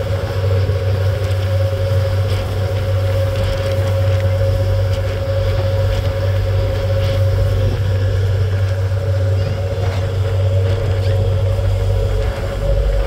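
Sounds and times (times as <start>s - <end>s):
ferry engines droning: 0.0s - 13.0s
higher engine hum: 0.0s - 13.0s.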